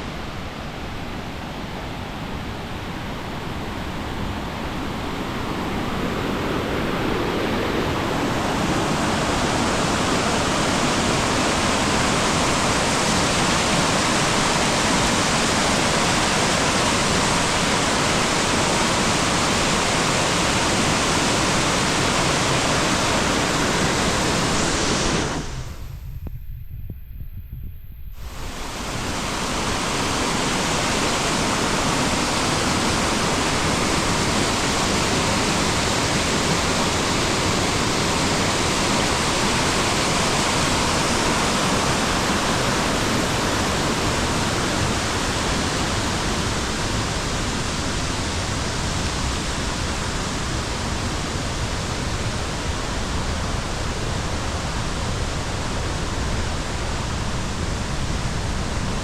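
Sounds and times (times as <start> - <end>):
waterfall rushing: 0.1 - 25.8, 28.2 - 59.0.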